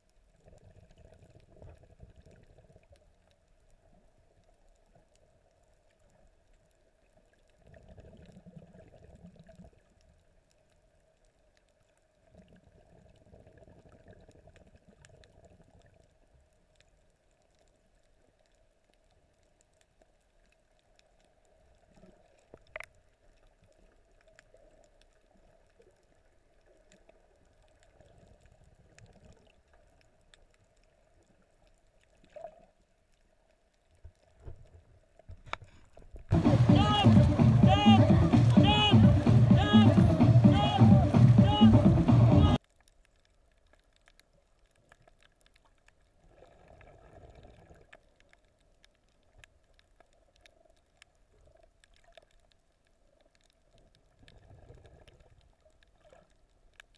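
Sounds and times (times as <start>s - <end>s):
muffled underwater water noise: 0.0s - 56.9s.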